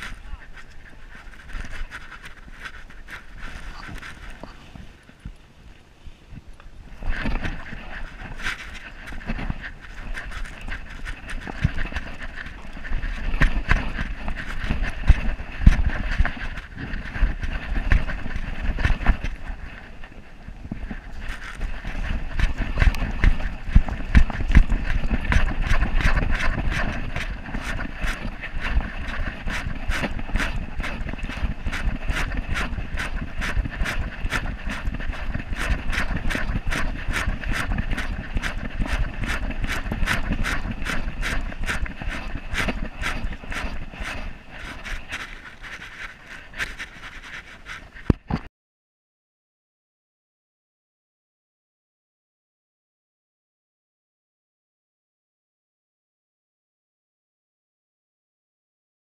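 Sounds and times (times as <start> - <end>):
wind rumble on microphone: 0.0 - 48.5.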